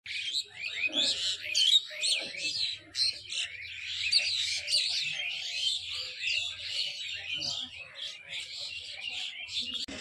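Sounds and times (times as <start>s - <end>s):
small birds chirping: 0.1s - 10.0s.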